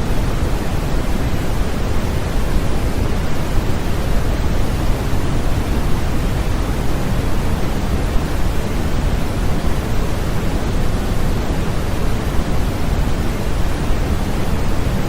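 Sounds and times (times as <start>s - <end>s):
white noise hiss: 0.0s - 15.0s.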